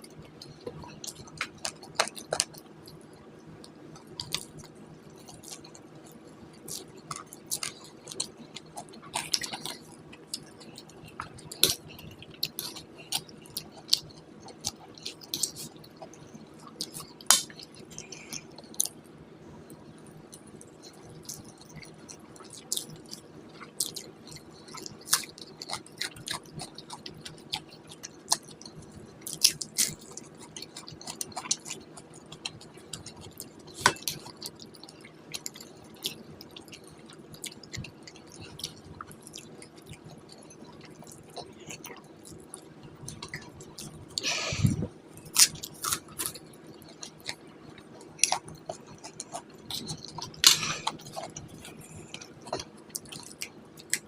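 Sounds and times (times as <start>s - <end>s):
wet chewing: 0.1s - 19.0s, 20.0s - 54.0s.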